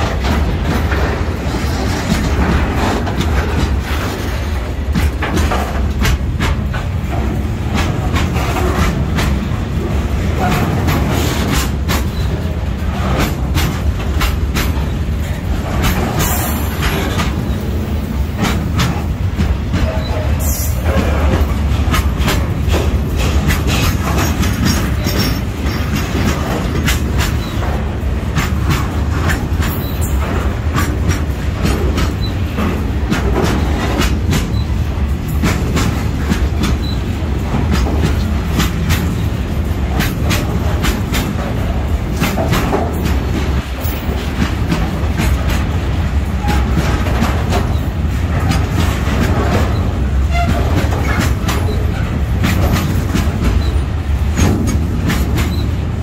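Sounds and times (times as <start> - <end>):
train wheels rumbling: 0.0 - 56.0
wheels clacking on rail joints: 0.0 - 56.0.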